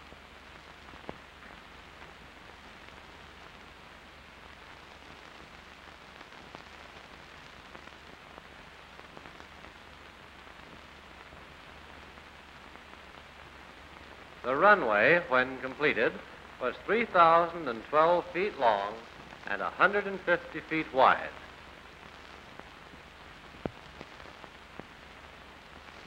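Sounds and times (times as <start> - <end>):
crackles and pops: 0.0 - 26.0
steady film hiss: 0.0 - 26.0.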